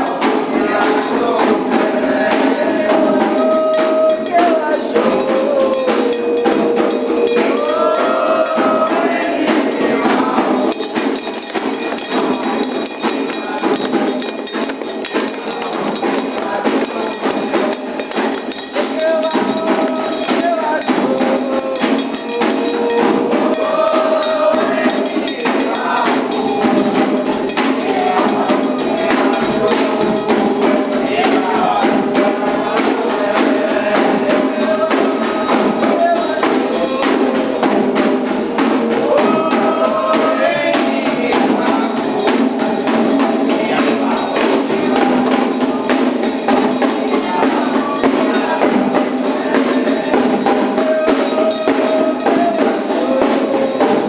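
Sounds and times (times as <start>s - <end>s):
hand drum strokes: 0.0s - 54.0s
ringing bell clank: 0.0s - 54.0s
voices singing a chant: 0.0s - 54.0s.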